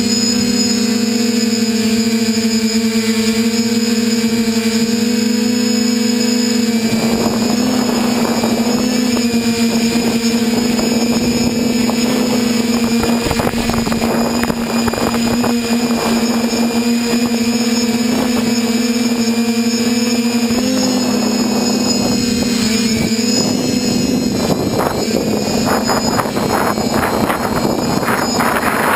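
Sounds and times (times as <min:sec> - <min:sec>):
quadcopter motors whining: 0:00.0 - 0:28.9
rushing wind noise: 0:04.6 - 0:28.9.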